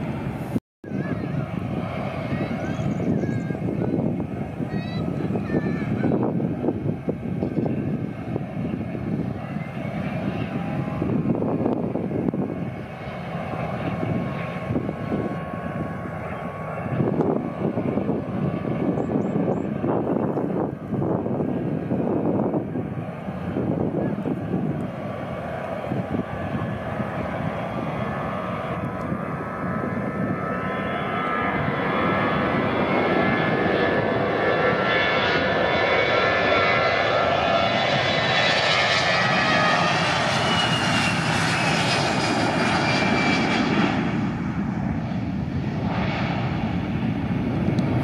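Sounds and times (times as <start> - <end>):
jet airliner taking off: 0.0 - 48.0
jet engine whine: 0.0 - 48.0.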